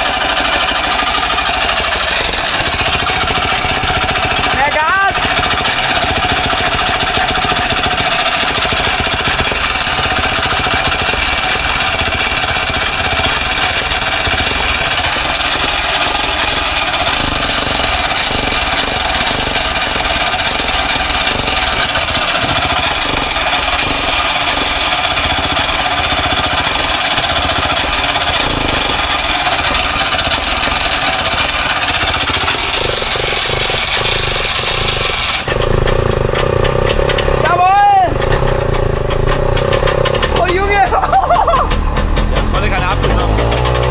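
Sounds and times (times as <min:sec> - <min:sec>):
two-stroke engine running: 0:00.0 - 0:43.9.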